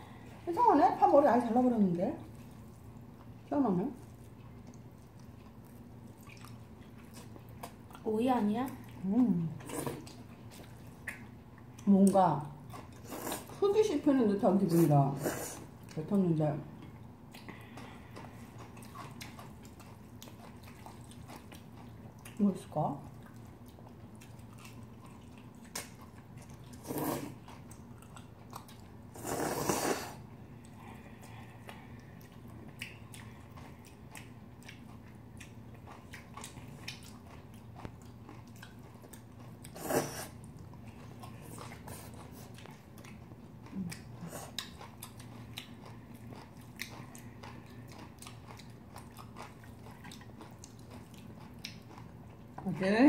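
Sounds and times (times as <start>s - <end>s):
faint steady hum: 0.0s - 53.0s
chewing and biting food: 2.2s - 13.6s, 16.7s - 52.8s.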